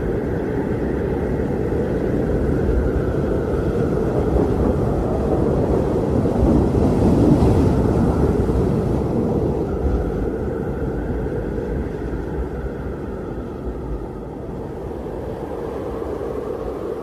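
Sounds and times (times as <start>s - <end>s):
strong wind roaring: 0.0s - 17.0s.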